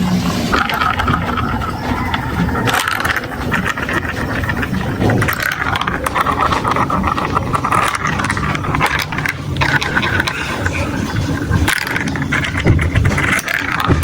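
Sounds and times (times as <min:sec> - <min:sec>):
marbles rattling down marble run: 0:00.0 - 0:14.0.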